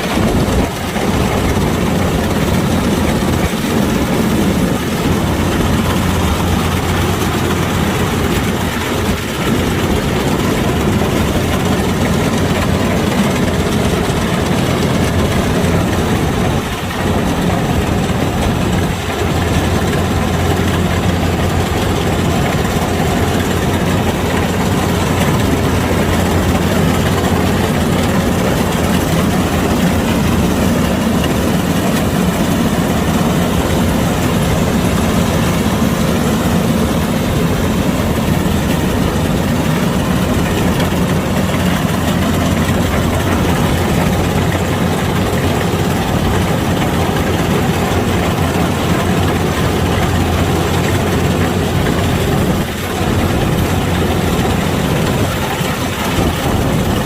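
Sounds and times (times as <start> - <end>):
combine harvester diesel engine drone: 0.0 - 57.0.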